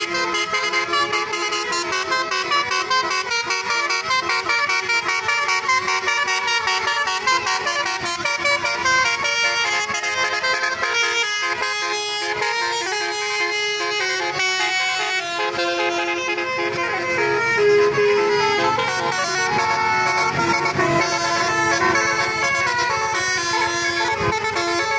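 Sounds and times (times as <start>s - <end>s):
multi-tone bus air horns: 0.0s - 24.9s.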